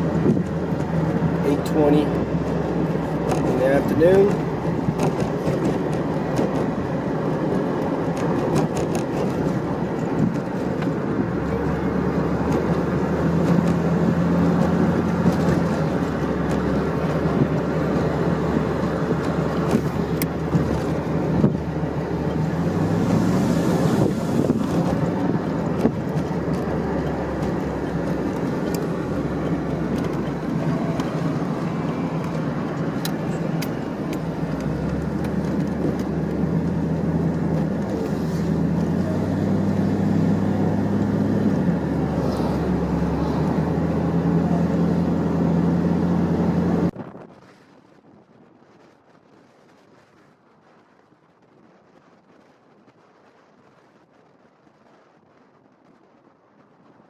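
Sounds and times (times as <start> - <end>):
car engine drone: 0.0 - 57.0
road noise: 0.0 - 57.0
wind noise: 0.0 - 57.0.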